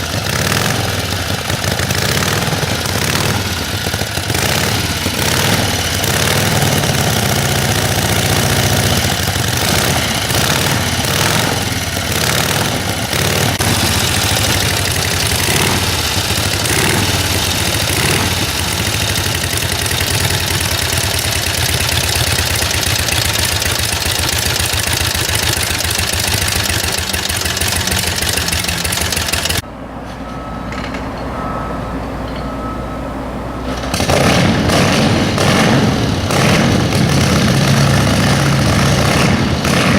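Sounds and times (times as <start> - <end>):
motorcycle engine running: 0.0 - 29.7, 33.8 - 39.9.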